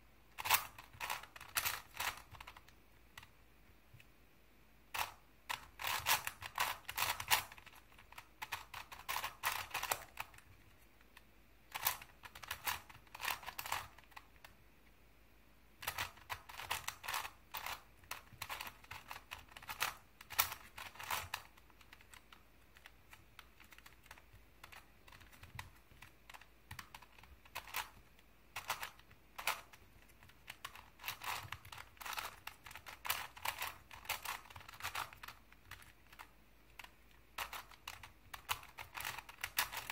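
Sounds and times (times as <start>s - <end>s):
plastic puzzle cube clicking: 0.4s - 3.4s, 4.9s - 14.6s, 15.8s - 39.9s.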